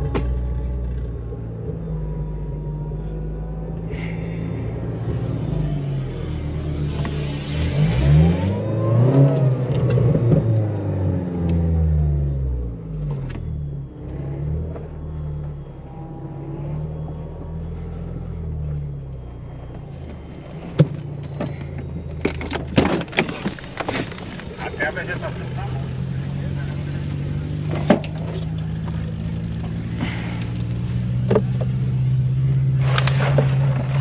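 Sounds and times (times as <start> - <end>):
engine revving under load: 0.0 - 34.0.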